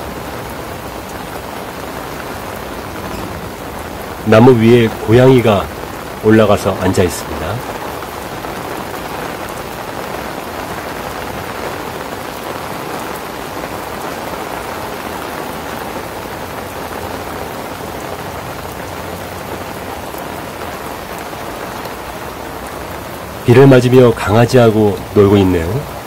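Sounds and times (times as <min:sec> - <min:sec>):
rain falling on grass: 0:00.0 - 0:26.0.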